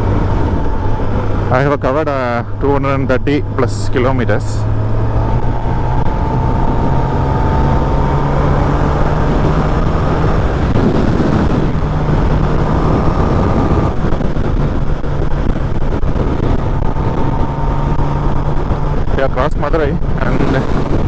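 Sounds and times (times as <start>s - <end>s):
motorcycle engine cruising: 0.0s - 21.0s
road noise: 0.0s - 21.0s
wind rushing: 0.0s - 21.0s.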